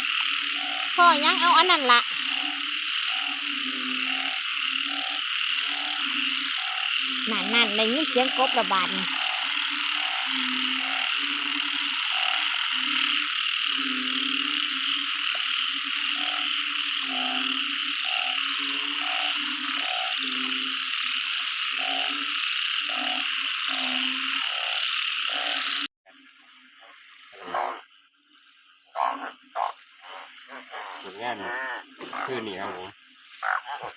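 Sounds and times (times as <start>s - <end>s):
frogs croaking: 0.0s - 33.9s.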